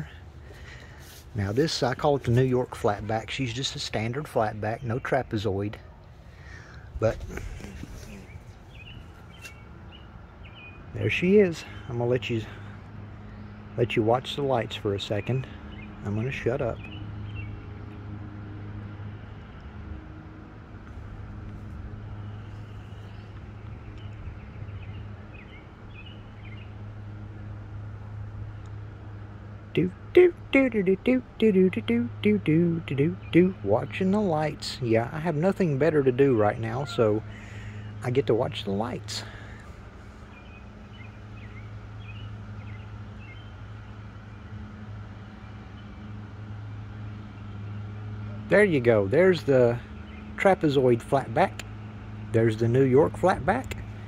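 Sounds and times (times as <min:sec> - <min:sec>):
bird chirping: 0:00.0 - 0:18.0, 0:22.0 - 0:26.9, 0:29.8 - 0:54.0
steady low hum: 0:00.0 - 0:54.0.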